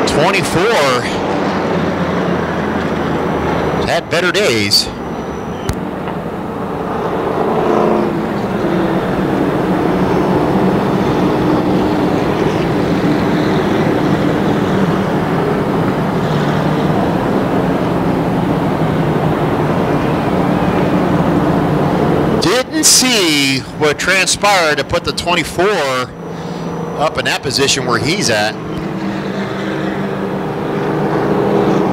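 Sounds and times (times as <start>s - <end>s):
race truck engines running: 0.0s - 31.9s.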